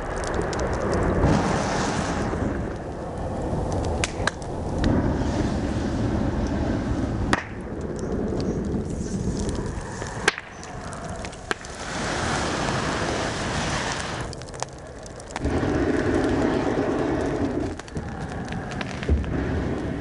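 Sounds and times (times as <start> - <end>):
burning wood popping: 0.0 - 20.0
fire surging in rushes: 0.0 - 20.0.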